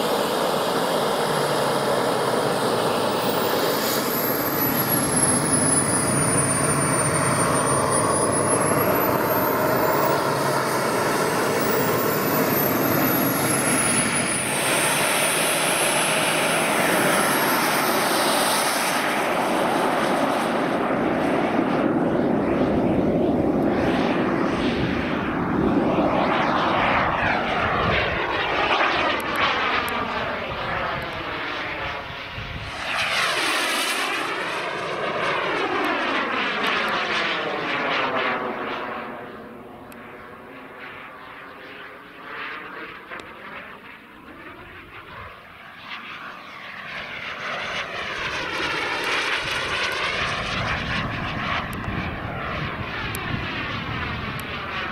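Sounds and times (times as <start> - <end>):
model jet turbine whine: 0.0 - 54.9.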